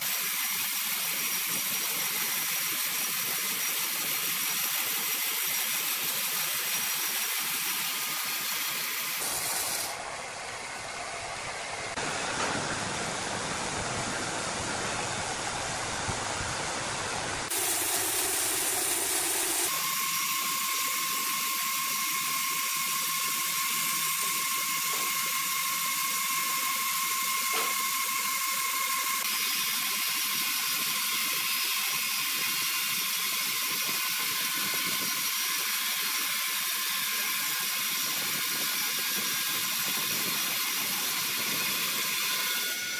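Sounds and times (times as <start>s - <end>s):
band saw rasping through log: 0.0s - 10.1s, 17.5s - 42.9s
thin steady whine: 0.6s - 42.9s.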